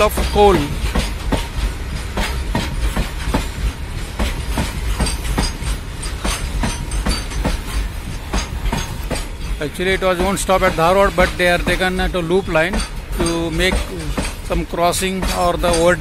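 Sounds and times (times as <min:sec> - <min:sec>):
freight train rumble: 0:00.0 - 0:16.0
train wheels clicking over rail joints: 0:00.0 - 0:16.0.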